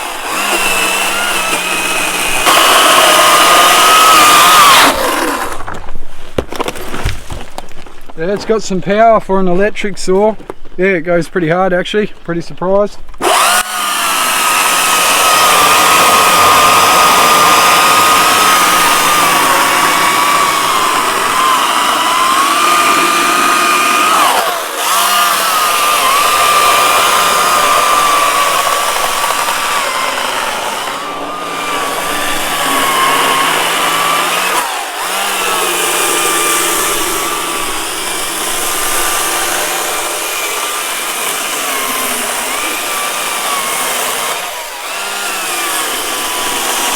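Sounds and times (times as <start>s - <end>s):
electric chainsaw cutting branch: 0.0s - 5.8s, 13.2s - 46.9s.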